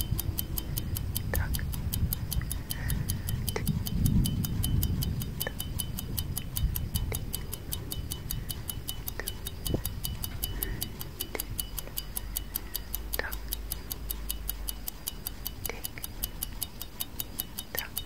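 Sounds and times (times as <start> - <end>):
low rumble: 0.0 - 16.6
clock ticking: 0.0 - 18.0.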